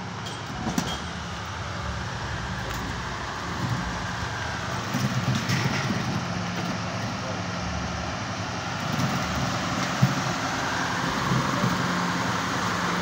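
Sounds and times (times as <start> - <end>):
broad rushing noise: 0.7 - 13.0.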